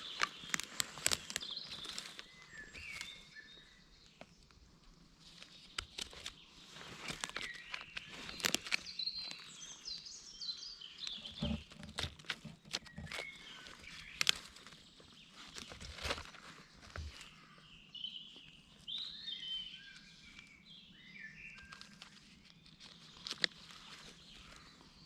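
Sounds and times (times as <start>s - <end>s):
footsteps on leaves and twigs: 0.0s - 10.2s, 11.0s - 17.6s, 21.6s - 25.0s
birds chirping: 0.0s - 25.0s.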